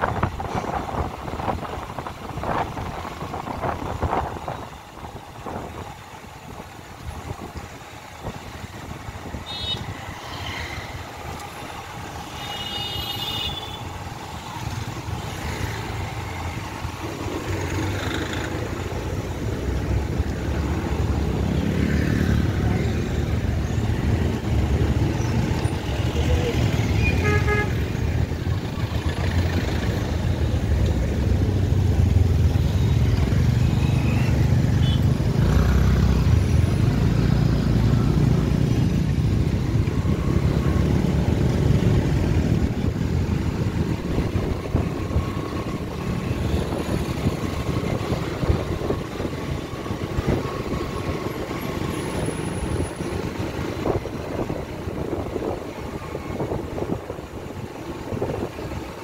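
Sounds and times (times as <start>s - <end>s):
motorcycle engine and road rumble: 0.0s - 59.0s.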